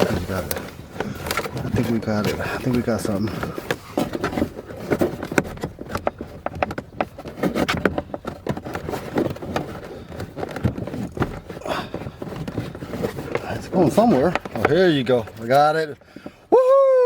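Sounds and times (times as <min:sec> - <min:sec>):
wire and plastic scraping: 0:00.0 - 0:16.6.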